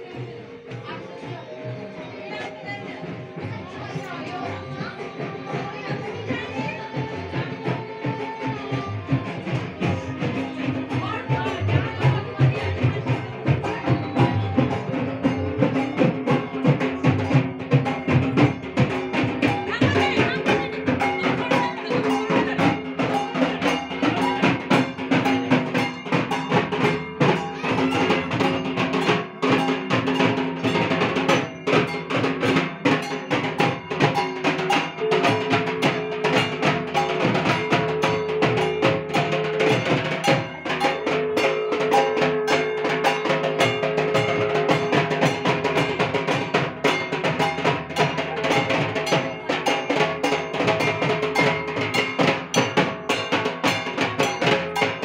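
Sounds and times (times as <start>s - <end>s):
fast dense drumming: 3.4s - 55.0s.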